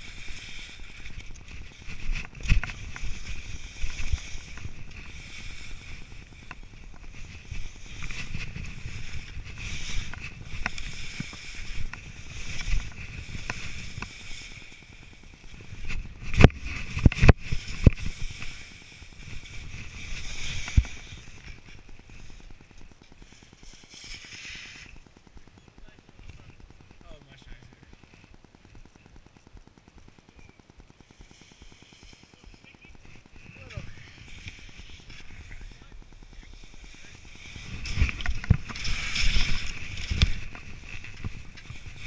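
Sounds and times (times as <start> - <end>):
skis scraping over snow: 0.0 - 28.6, 31.1 - 42.0.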